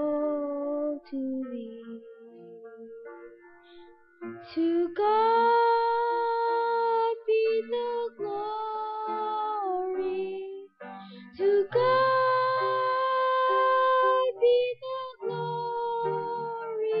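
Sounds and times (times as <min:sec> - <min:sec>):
boy singing into microphone: 0:00.0 - 0:03.1, 0:04.5 - 0:10.7, 0:11.4 - 0:17.0
instrumental accompaniment: 0:00.0 - 0:17.0.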